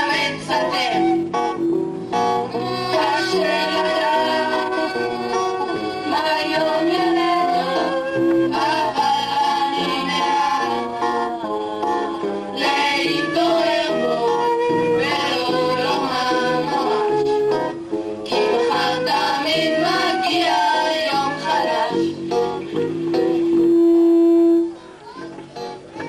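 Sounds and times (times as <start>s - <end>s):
song with singing: 0.0s - 24.8s.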